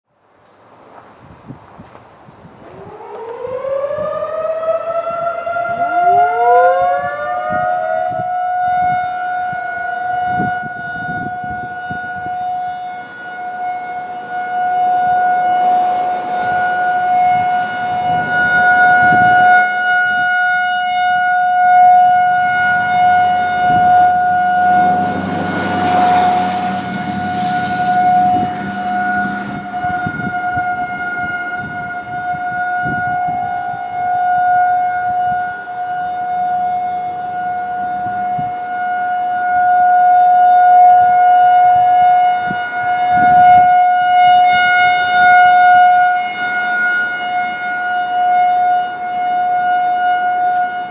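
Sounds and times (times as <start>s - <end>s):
outdoor warning sirens: 0.4s - 50.9s.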